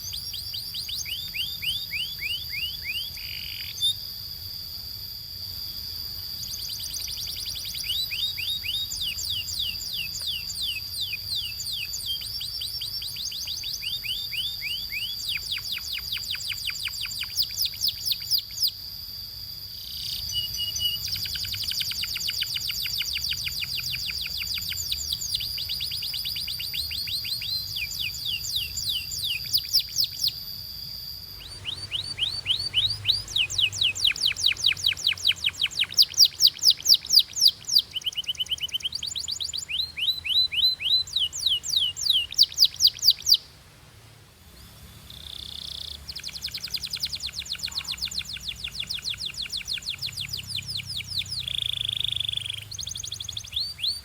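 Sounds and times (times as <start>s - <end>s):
canary singing trills: 0.0s - 43.5s, 44.5s - 54.0s
high steady whistled tone: 0.0s - 43.5s, 44.3s - 54.0s.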